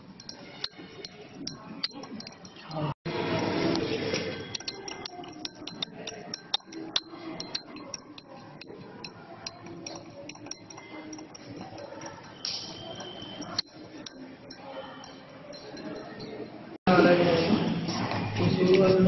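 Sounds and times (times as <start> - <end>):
glass rod clinking in beaker: 0.0 - 16.6.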